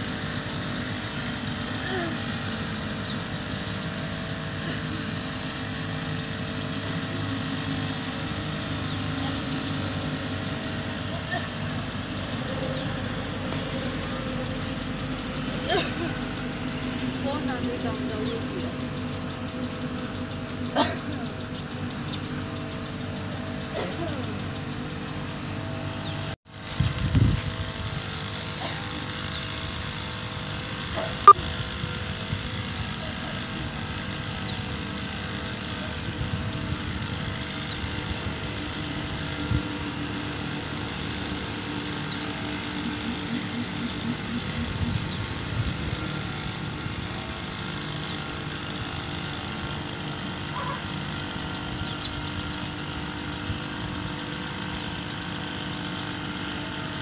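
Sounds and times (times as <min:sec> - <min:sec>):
tractor engine drone: 0:00.0 - 0:57.0.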